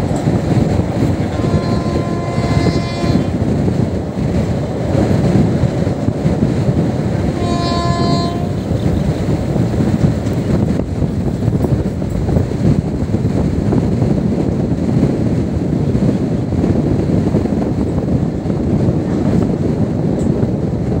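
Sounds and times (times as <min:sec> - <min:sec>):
passenger train running at speed: 0:00.0 - 0:21.0
wind buffeting the microphone: 0:00.0 - 0:21.0.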